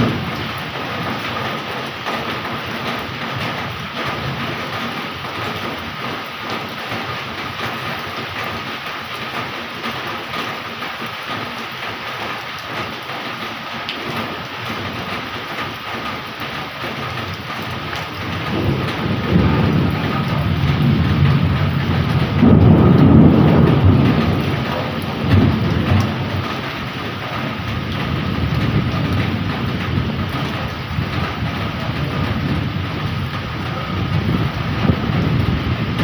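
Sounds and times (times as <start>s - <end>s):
low rumble of thunder: 0.0s - 10.7s, 13.8s - 36.0s
heavy rain pouring: 0.0s - 36.0s.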